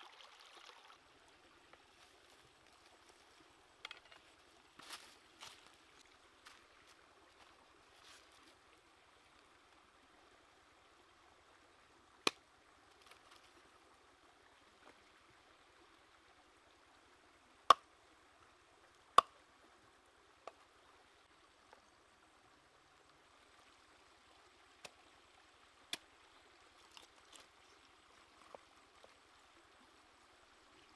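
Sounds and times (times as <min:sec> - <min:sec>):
faint water stream: 0:00.0 - 0:30.9.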